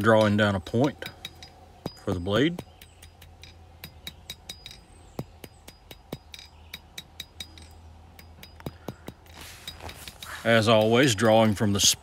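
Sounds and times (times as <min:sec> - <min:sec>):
hammer striking steel on anvil: 0:00.0 - 0:11.8
steady low hum: 0:00.0 - 0:12.0.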